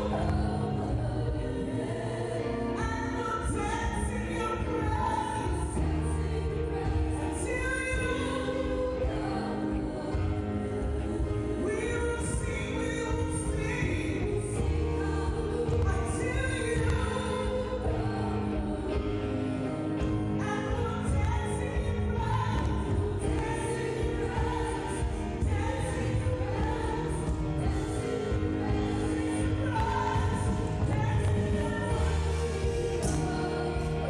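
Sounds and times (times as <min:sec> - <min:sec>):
bass: 0:00.0 - 0:34.0
keyboard chords: 0:00.0 - 0:34.0.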